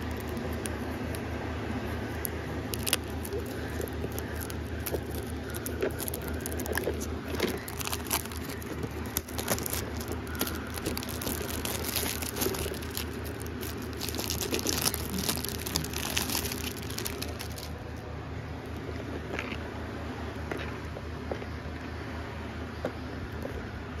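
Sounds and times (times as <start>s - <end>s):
crinkling handling noise: 0.0s - 19.6s
low steady hum: 0.0s - 24.0s.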